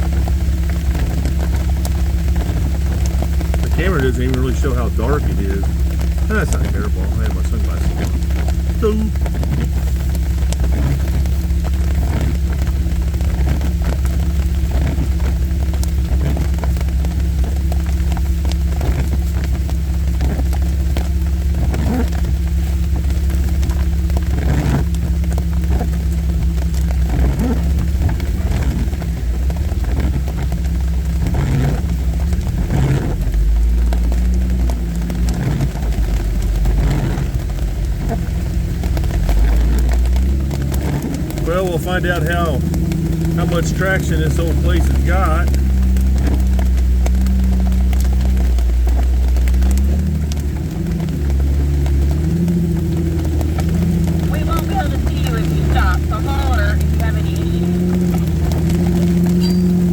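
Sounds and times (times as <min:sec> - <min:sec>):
rain hitting roof and glass: 0:00.0 - 0:59.9
vehicle engine running: 0:00.0 - 0:59.9.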